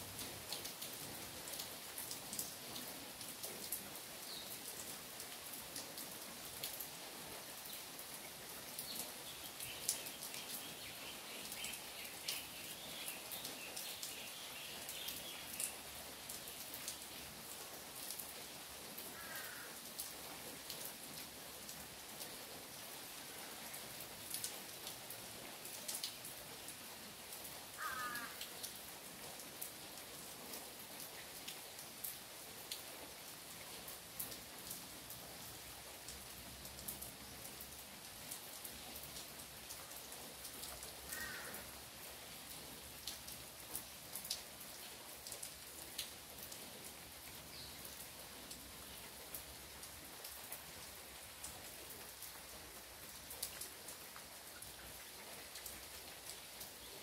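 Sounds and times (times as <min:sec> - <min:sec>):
rain pattering on trees: 0:00.0 - 0:57.0.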